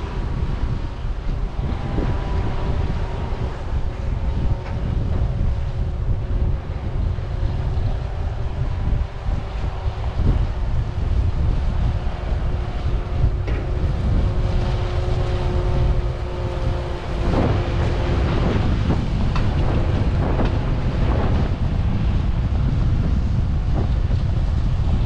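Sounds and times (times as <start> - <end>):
harvest machinery rumble: 0.0 - 25.0
steady engine tones: 0.0 - 25.0
wind buffeting microphone: 0.0 - 25.0.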